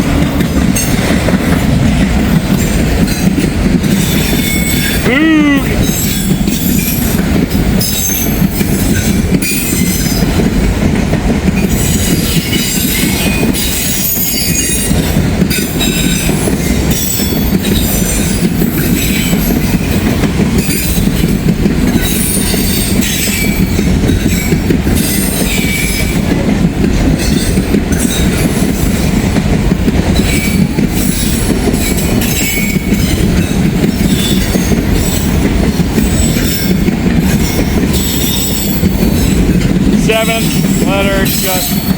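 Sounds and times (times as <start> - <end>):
wheels clacking over rail joints: 0.0 - 5.1, 5.7 - 41.9
train wheels rumbling on rails: 0.0 - 41.9.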